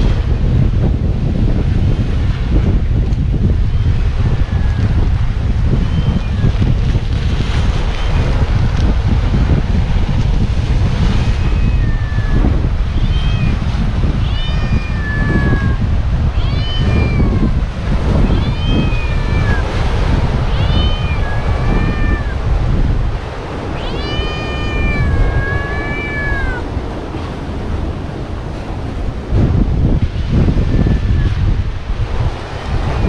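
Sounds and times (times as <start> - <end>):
low rushing noise: 0.0 - 33.0.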